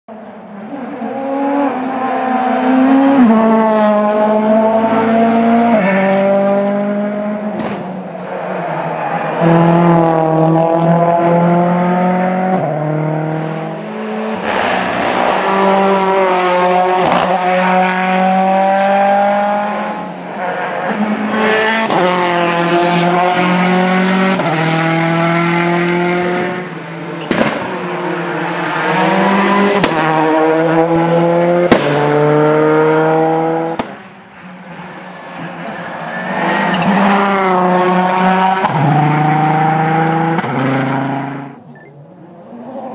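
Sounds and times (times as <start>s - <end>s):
rally car engine revving: 0.5s - 41.6s.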